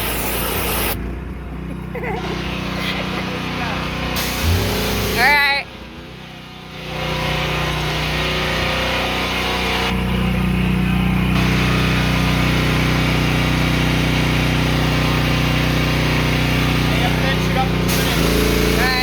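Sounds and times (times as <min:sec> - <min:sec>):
pressure washer engine running: 0:00.0 - 0:19.0.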